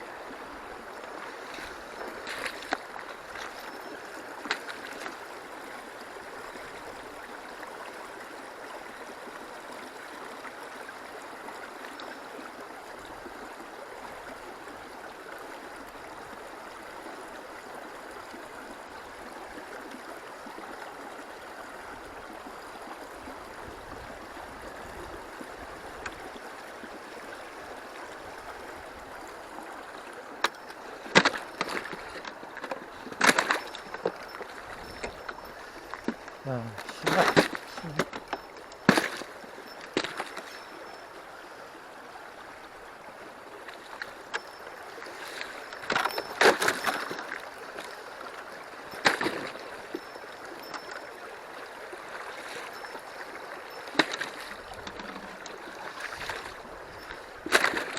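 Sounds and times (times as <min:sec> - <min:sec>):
stream water running: 0:00.0 - 0:57.9.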